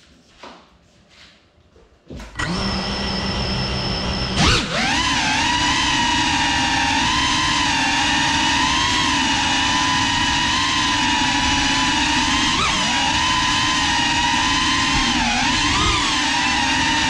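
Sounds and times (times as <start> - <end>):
drone motors whining: 2.3 - 17.0.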